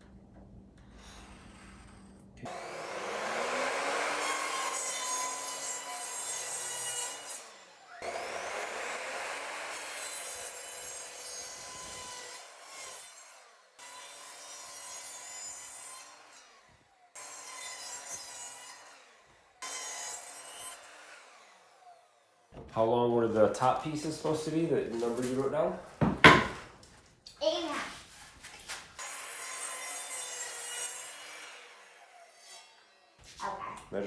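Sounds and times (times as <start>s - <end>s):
saw cutting wooden board: 0.8s - 25.4s, 26.0s - 26.7s, 29.0s - 33.7s.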